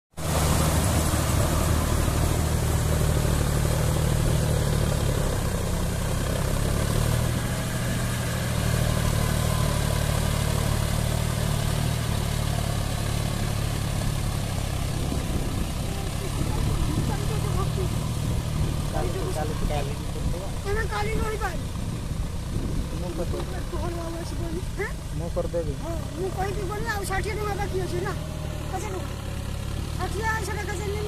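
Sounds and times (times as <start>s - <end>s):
tractor diesel engine under load: 0.1s - 31.0s.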